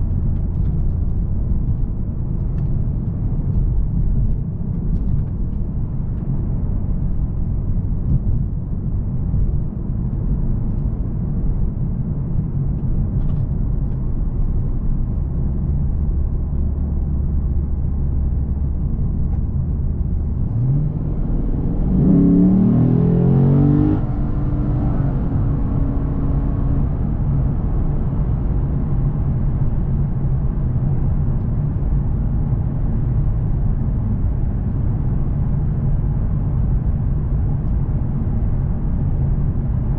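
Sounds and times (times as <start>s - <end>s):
car engine rumbling from cabin: 0.0s - 39.9s
road noise: 0.0s - 39.9s.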